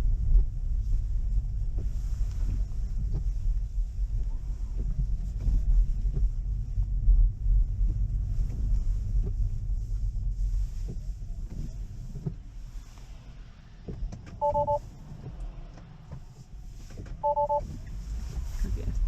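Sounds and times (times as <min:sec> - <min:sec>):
road and tyre rumble: 0:00.0 - 0:19.0.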